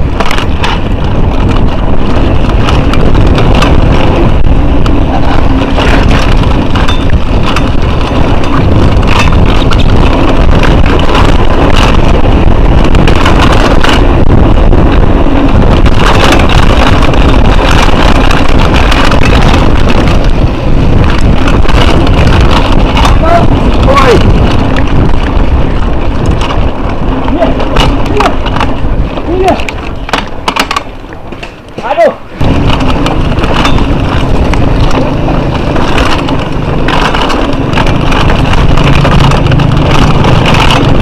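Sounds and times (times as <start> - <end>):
bike clattering over stones: 0.0 - 41.0
wind buffeting microphone: 0.0 - 41.0.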